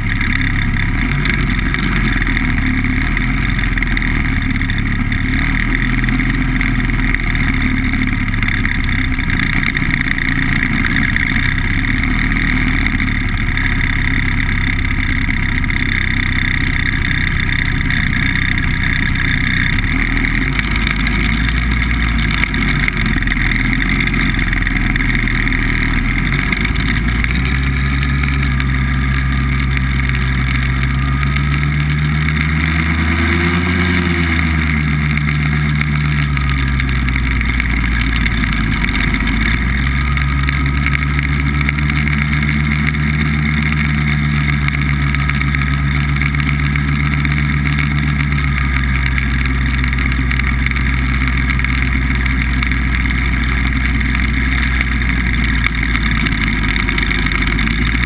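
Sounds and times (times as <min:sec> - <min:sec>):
hovercraft engine and fan running: 0:00.0 - 0:58.0.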